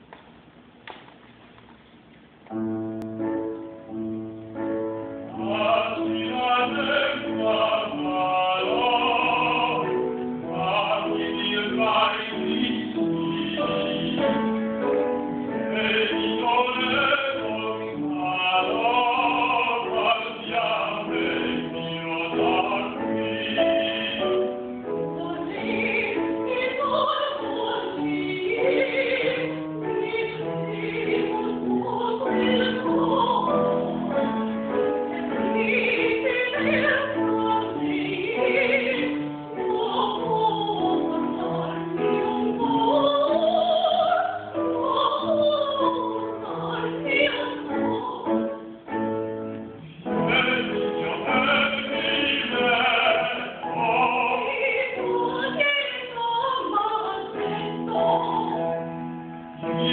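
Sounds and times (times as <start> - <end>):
grand piano chords: 2.0 - 59.9
woman singing operatic song: 5.2 - 49.1, 49.8 - 59.9.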